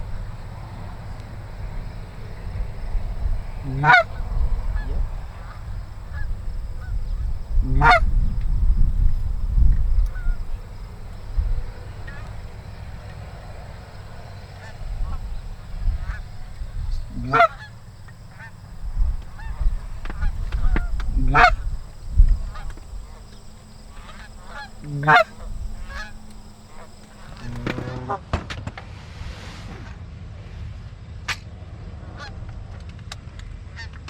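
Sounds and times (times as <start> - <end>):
geese honking: 0.0 - 27.8.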